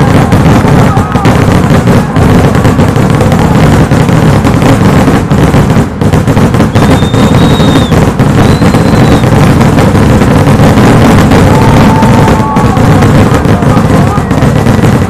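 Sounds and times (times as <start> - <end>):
high firework whistles: 0.0 - 15.0
rockets and firecrackers exploding: 0.0 - 15.0.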